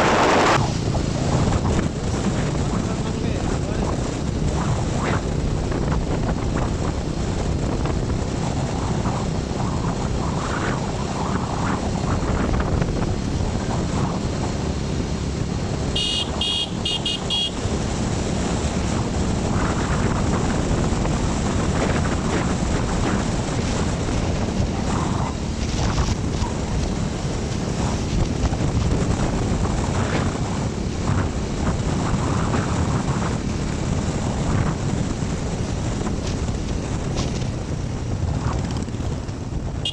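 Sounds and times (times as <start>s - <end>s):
road vehicle noise: 0.0s - 39.9s
wind buffeting microphone: 0.0s - 39.9s.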